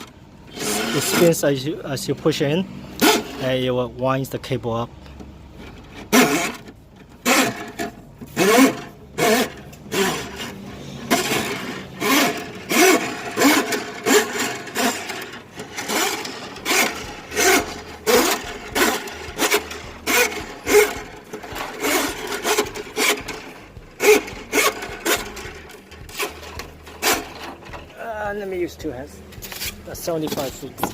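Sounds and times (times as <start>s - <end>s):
drain snake cable scraping: 0.0s - 2.2s, 5.5s - 30.9s.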